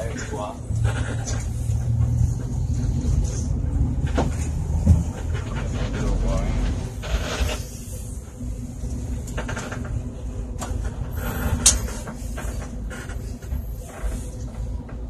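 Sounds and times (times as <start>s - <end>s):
interior clicks and rattles: 0.0s - 7.8s, 8.8s - 15.0s
bus engine running: 0.0s - 15.0s.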